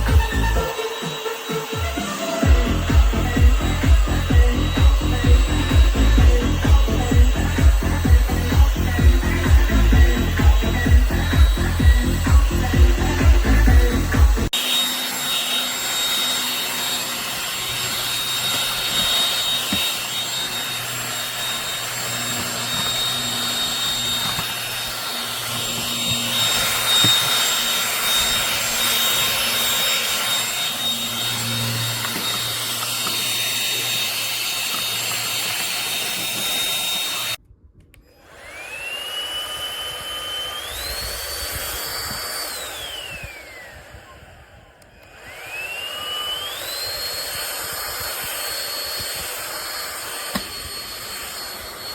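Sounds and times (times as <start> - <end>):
stick vacuum running: 0.0 - 51.9.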